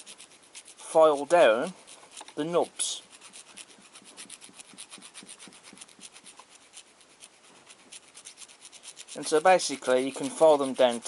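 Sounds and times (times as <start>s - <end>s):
hand file scraping: 0.0s - 11.0s.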